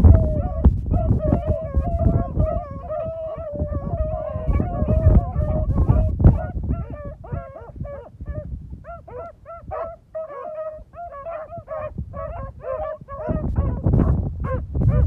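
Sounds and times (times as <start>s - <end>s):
hounds baying and yelping: 0.0s - 15.0s
wind buffeting microphone: 0.0s - 15.0s.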